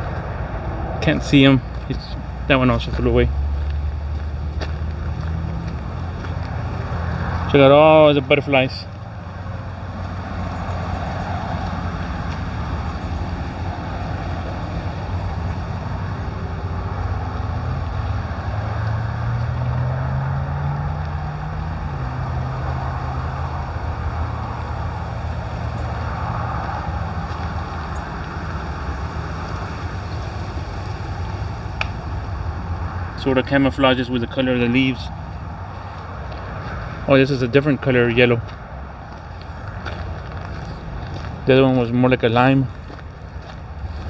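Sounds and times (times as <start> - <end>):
engine rumble: 0.0 - 44.0
wind: 0.0 - 44.0.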